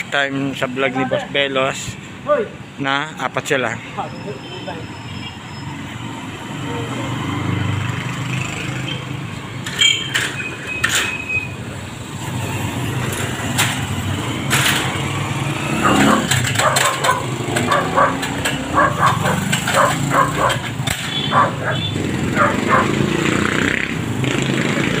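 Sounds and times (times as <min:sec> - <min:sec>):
street traffic engine hum: 0:00.0 - 0:25.0.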